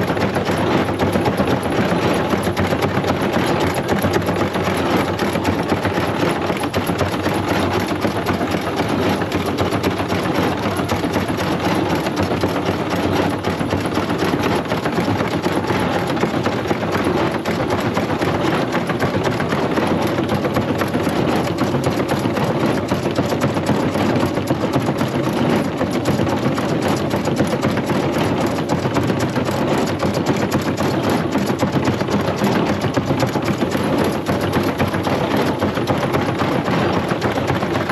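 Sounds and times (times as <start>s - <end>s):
fast fine mechanical rattle: 0.0s - 37.9s
threshing machine running: 0.0s - 37.9s.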